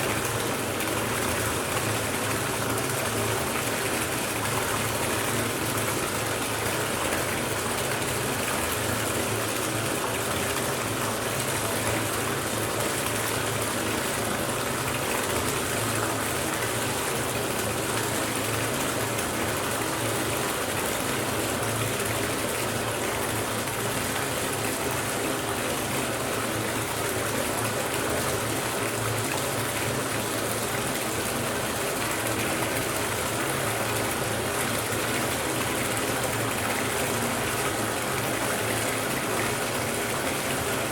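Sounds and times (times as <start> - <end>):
water gushing into bathtub: 0.0 - 40.9.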